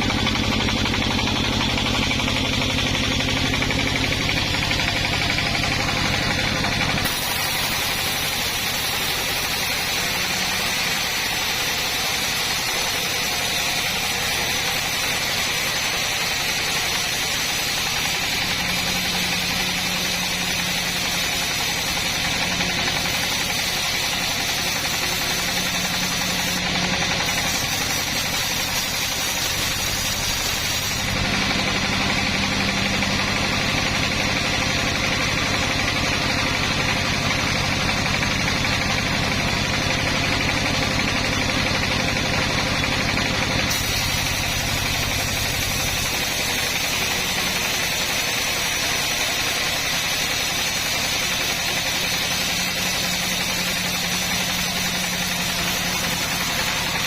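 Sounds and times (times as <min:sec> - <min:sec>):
saw engine running: 0:00.0 - 0:57.0.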